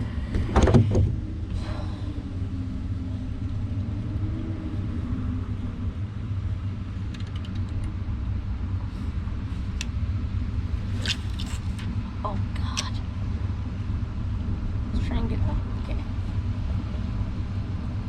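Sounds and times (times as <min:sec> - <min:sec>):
faint wavering hum: 0:00.0 - 0:18.0
low rumble: 0:00.0 - 0:18.0.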